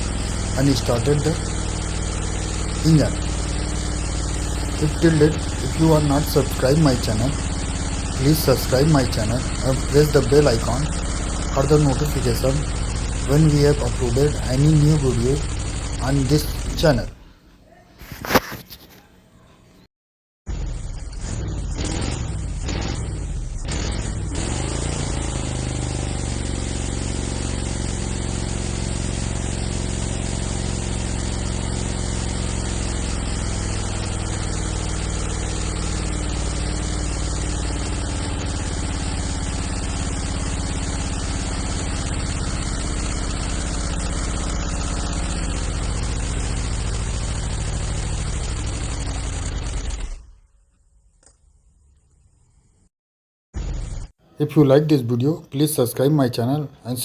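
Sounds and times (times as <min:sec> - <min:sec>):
old engine rumbling: 0:00.0 - 0:17.3, 0:20.5 - 0:50.4.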